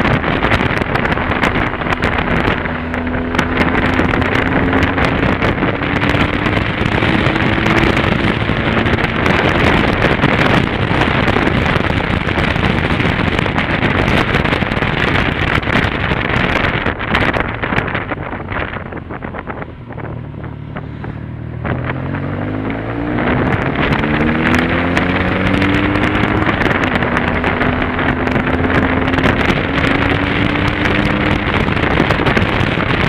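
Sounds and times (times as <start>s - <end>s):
motorcycle engine running: 0.0s - 33.0s
wind buffeting microphone: 0.0s - 33.0s.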